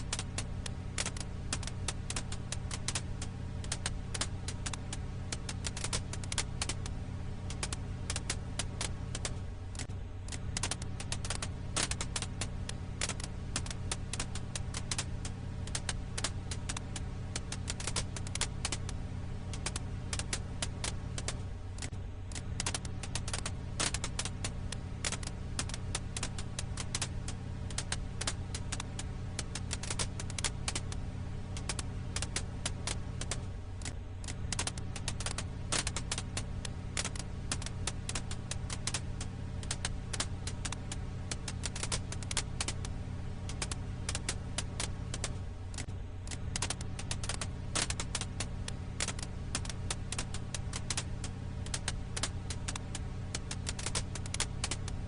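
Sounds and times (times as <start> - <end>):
firewood crackling and popping: 0.0 - 55.0
low hum: 0.0 - 55.0.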